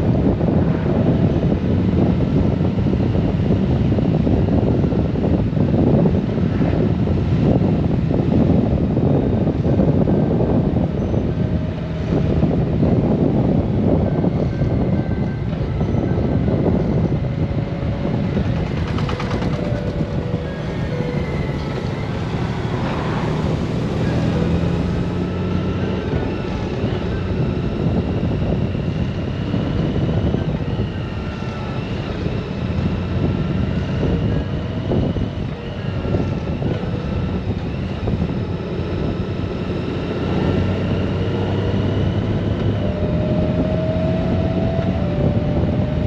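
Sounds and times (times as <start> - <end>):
motorcycle engine and road rumble: 0.0 - 46.0
wind rushing over microphone: 0.0 - 46.0.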